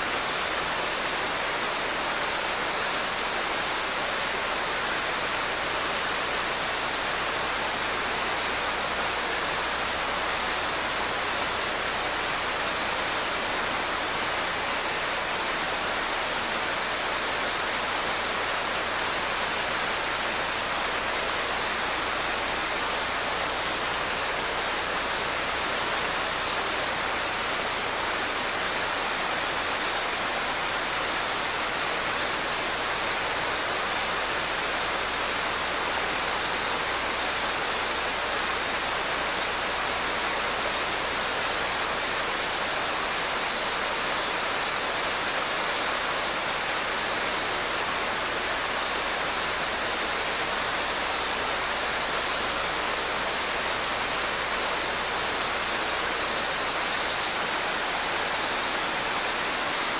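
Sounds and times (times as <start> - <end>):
stream rushing over rocks: 0.0 - 59.9
cicada singing in rapid pulses: 0.1 - 59.9.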